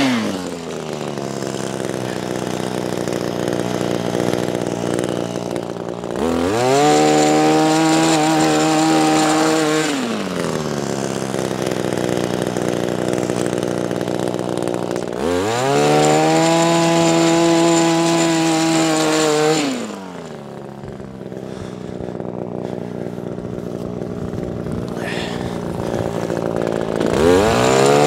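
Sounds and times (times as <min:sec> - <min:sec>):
two-stroke engine revving and idling: 0:00.0 - 0:28.0.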